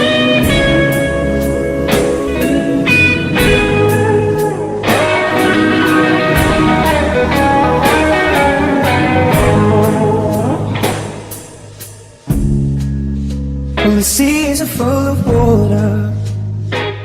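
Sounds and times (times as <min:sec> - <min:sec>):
steady drum beat: 0:00.0 - 0:13.5, 0:15.3 - 0:16.4
blues-rock guitar: 0:00.0 - 0:17.0.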